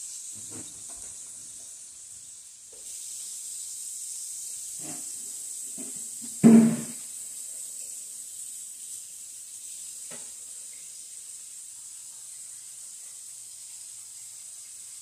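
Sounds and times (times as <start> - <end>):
burger patties sizzling in a pan: 0.0 - 15.0.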